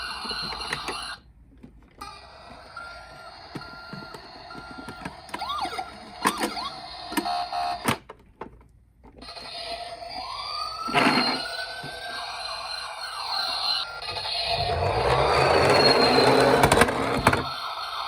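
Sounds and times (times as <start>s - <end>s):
toy siren beeps: 0.0s - 1.2s, 2.0s - 7.9s, 9.2s - 18.0s
warbling toy siren: 0.0s - 1.3s, 2.0s - 7.9s, 9.2s - 18.0s.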